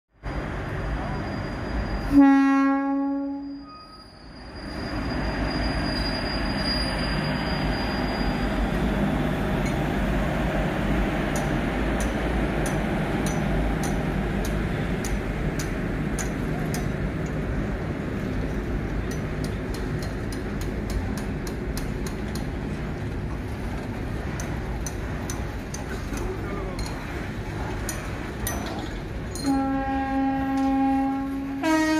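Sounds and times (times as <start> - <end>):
train rolling past: 0.2 - 31.9.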